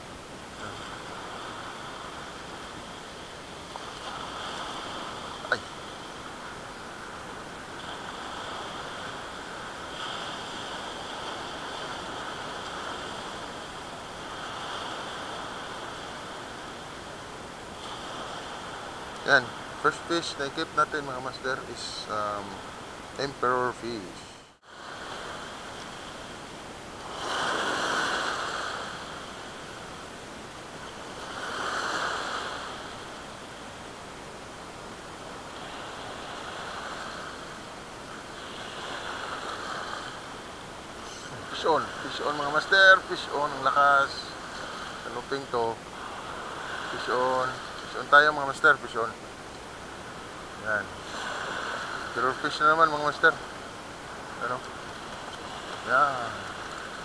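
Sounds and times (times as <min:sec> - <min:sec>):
surf washing on shore: 0:00.0 - 0:57.0.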